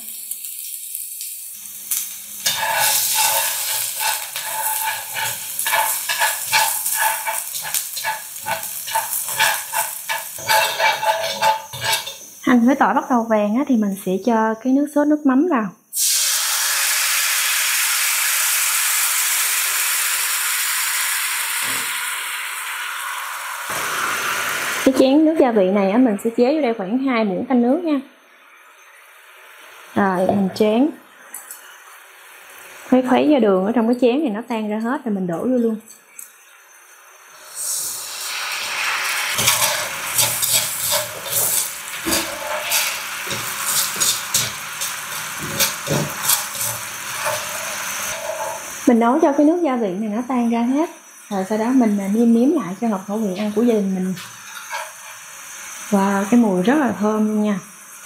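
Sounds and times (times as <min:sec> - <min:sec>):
food sizzling in hot oil: 0:00.0 - 0:14.7, 0:15.9 - 0:58.0.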